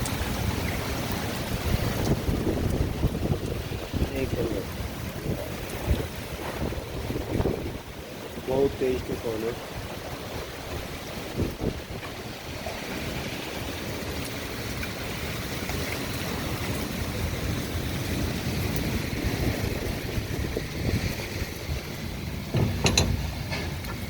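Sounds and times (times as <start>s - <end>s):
storm wind gusting: 0.0s - 8.5s, 9.6s - 24.0s
heavy rain: 0.0s - 24.0s.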